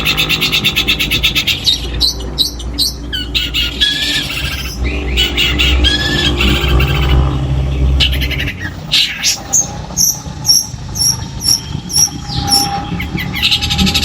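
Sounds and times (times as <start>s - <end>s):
low hum: 0.0s - 14.0s
shrike singing harsh varied song: 0.0s - 14.0s.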